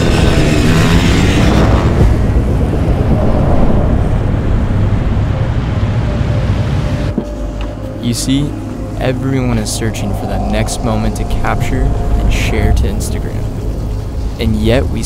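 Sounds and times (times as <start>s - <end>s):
rush of wind: 0.0s - 7.2s, 8.5s - 15.0s.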